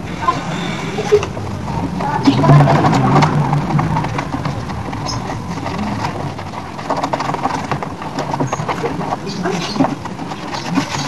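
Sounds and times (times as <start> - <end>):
steady low background noise: 0.0 - 9.3
scrubbing plastic casing: 0.0 - 11.0.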